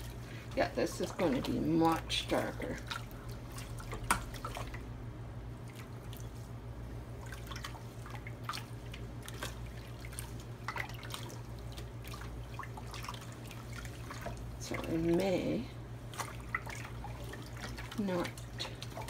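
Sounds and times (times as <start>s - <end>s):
liquid dripping into a plastic tub: 0.0s - 6.5s, 7.1s - 19.0s
steady low hum: 0.0s - 19.0s.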